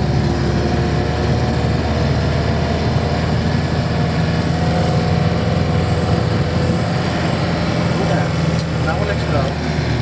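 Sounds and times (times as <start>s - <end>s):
van engine running: 0.0s - 10.0s.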